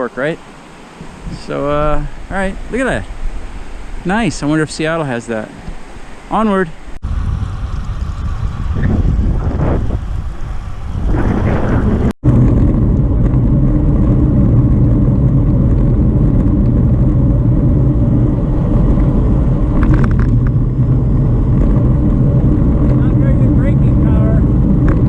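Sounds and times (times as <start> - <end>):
bicycle tyres on damp road: 0.0 - 25.0
wind on microphone: 0.8 - 4.6, 5.6 - 25.0.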